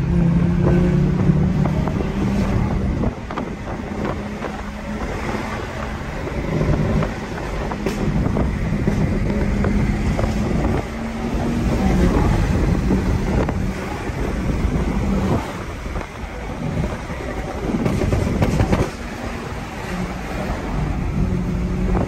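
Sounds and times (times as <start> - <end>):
car engine drone: 0.0 - 22.0
road and wind noise: 0.0 - 22.0.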